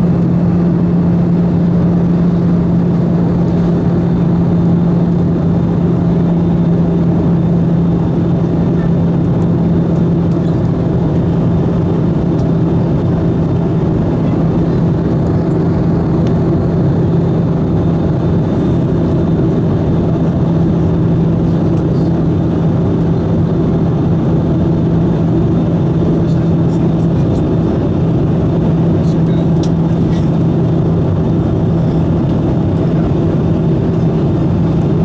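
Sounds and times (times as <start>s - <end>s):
aircraft cabin engine drone: 0.0s - 35.0s
steady low hum: 0.0s - 35.0s.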